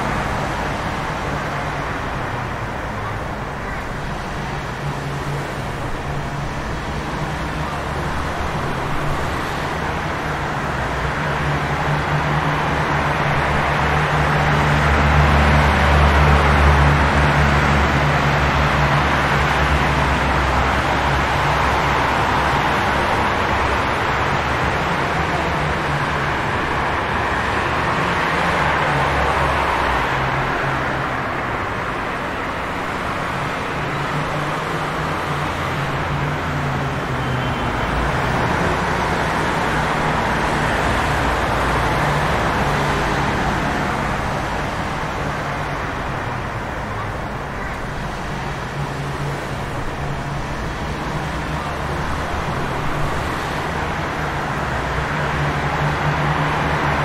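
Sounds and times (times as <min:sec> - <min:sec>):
engines humming: 0:00.0 - 0:57.0
tyres hissing on wet street: 0:00.0 - 0:57.0.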